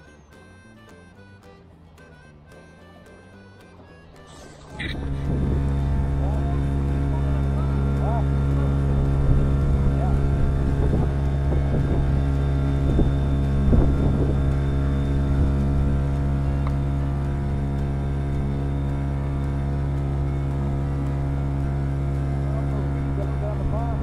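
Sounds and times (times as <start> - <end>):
outboard motor running: 2.5 - 24.0.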